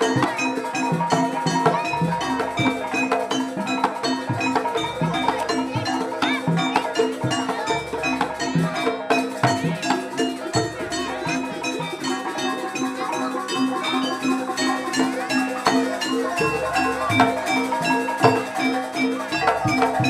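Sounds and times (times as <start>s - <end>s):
drum strokes: 0.0s - 20.0s
tuned metal percussion ringing: 0.0s - 20.0s.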